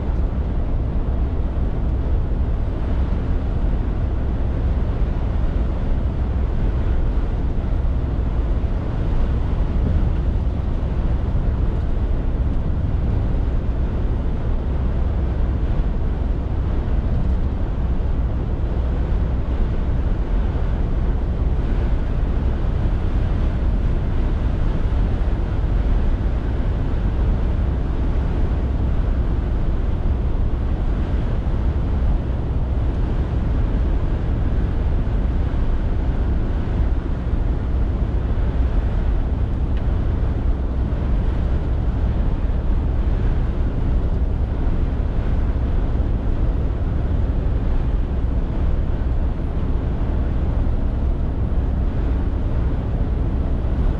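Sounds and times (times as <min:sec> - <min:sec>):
lorry diesel engine rumble: 0:00.0 - 0:53.9.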